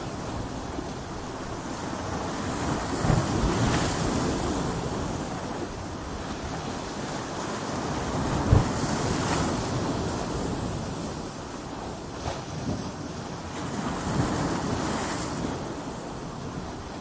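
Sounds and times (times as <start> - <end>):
ocean waves crashing on beach: 0.0 - 17.0
wind buffeting microphone: 0.0 - 17.0.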